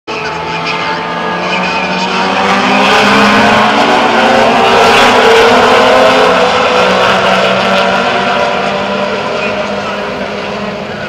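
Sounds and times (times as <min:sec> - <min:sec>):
race car engine at high revs: 0:00.1 - 0:11.0.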